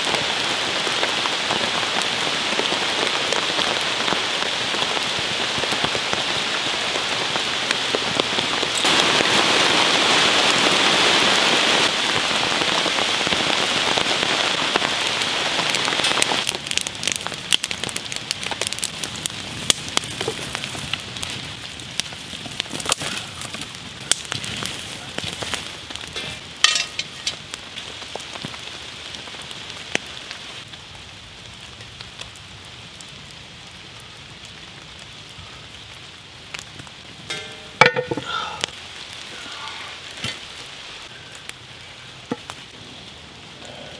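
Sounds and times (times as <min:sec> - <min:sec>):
campfire crackling and popping: 0:00.0 - 0:43.9
steady rain falling: 0:00.0 - 0:43.9.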